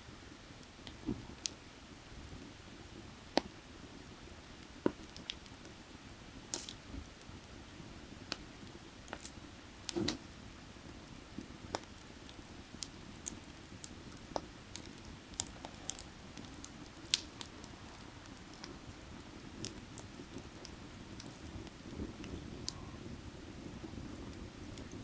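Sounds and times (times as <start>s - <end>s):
firewood crackling and popping: 0.5s - 25.0s.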